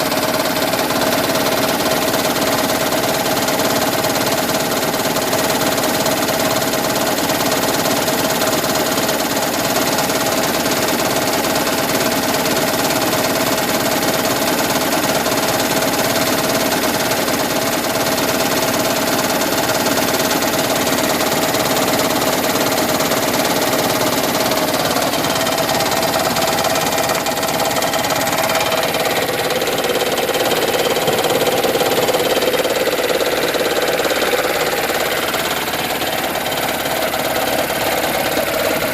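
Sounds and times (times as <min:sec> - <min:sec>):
car engine idling with knocking rattle: 0:00.0 - 0:38.9.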